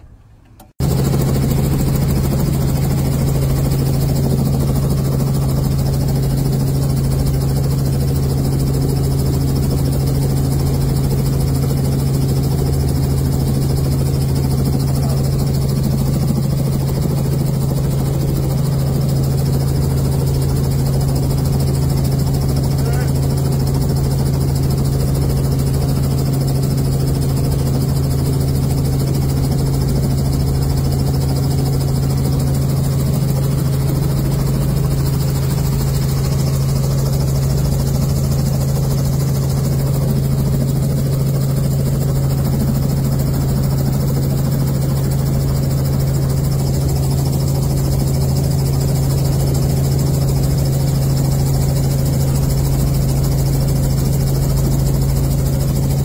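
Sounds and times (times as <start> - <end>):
helicopter engine and rotors droning: 0.0 - 56.0.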